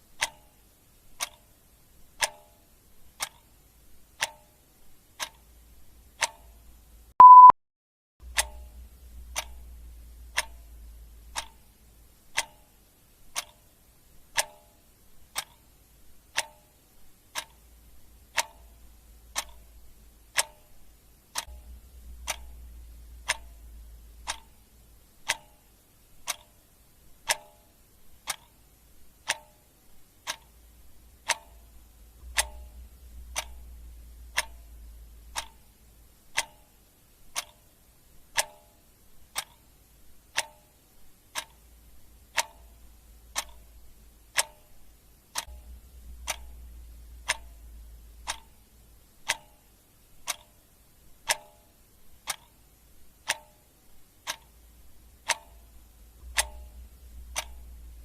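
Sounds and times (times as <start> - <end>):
clock ticking: 0.0 - 7.5, 8.2 - 58.0.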